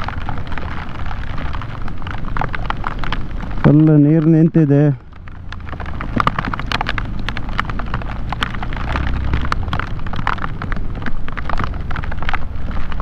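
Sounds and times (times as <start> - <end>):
heavy rain hitting camera: 0.0 - 13.0
motorcycle engine rumble: 0.0 - 13.0.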